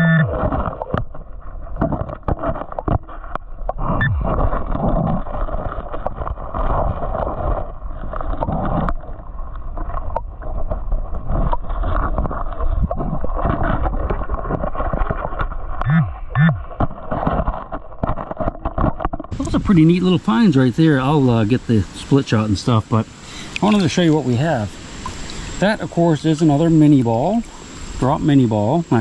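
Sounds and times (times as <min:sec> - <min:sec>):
creek water gurgling: 0:00.0 - 0:29.0.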